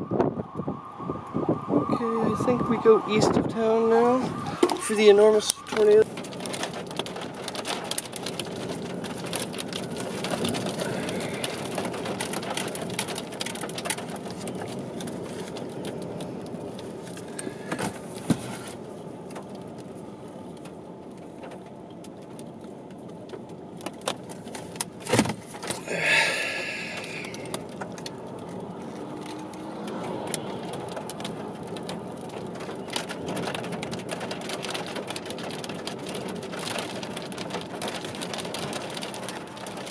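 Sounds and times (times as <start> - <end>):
wind and rain rushing: 0.0 - 39.9.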